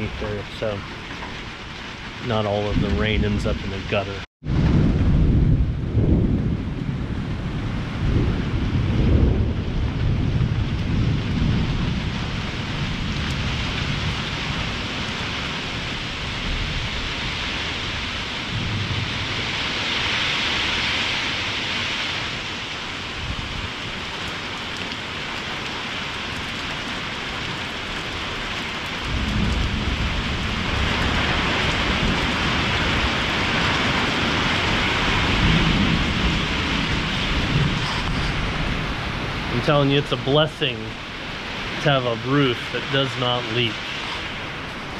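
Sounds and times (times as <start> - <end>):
heavy rain on roof: 0.0 - 44.9
thunder rumbling: 0.0 - 44.9.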